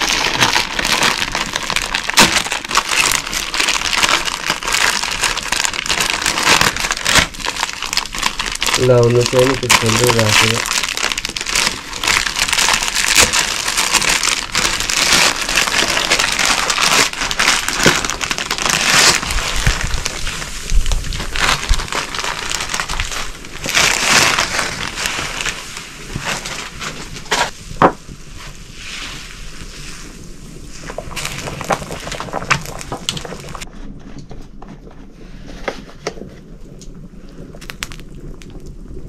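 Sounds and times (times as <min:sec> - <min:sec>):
plastic packet crinkling: 0:00.0 - 0:27.9, 0:30.8 - 0:33.7, 0:37.6 - 0:38.6.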